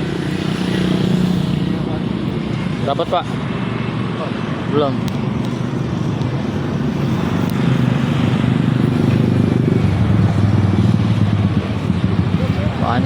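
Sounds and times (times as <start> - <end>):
motorcycle engine running: 0.0 - 3.7, 5.2 - 13.0.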